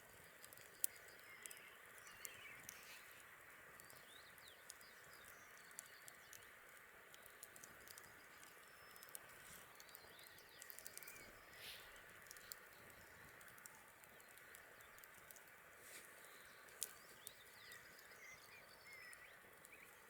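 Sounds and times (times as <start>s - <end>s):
campfire snaps and pops: 0.0s - 20.0s
low fire hiss: 0.0s - 20.0s.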